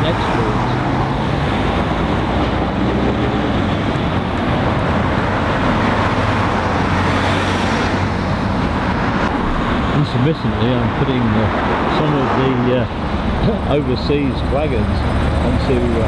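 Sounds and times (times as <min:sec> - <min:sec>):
diesel engine hum: 0:00.0 - 0:16.0
road traffic: 0:00.0 - 0:16.0.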